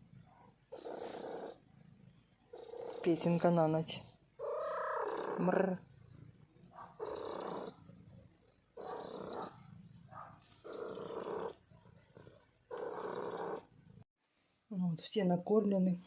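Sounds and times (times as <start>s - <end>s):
cat purring: 0.0s - 14.1s.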